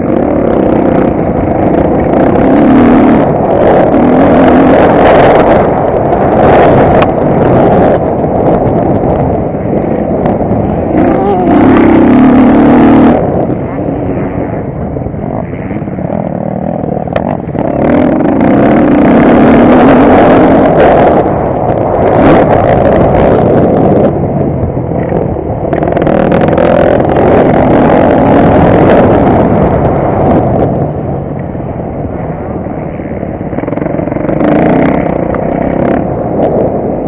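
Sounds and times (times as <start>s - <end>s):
motocross bike engine revving: 0.0s - 24.2s, 24.9s - 31.0s, 32.8s - 36.7s.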